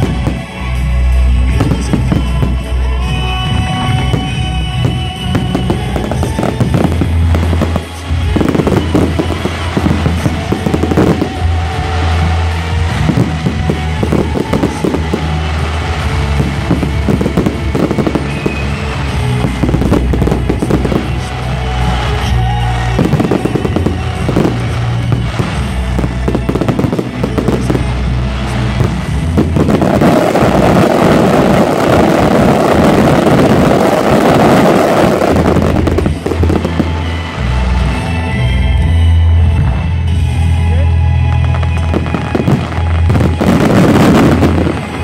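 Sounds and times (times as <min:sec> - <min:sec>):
firework crackling barrage: 0:00.0 - 0:45.0
music: 0:00.0 - 0:45.0.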